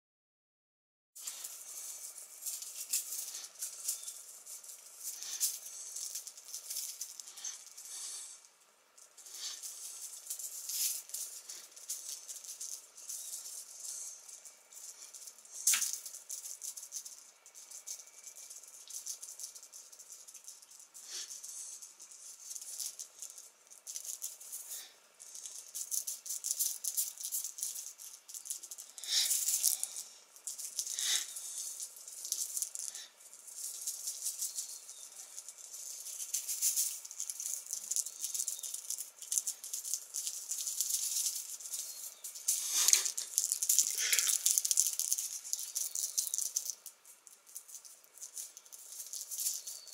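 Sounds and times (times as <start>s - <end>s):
toy streamer rustling: 1.2s - 49.9s.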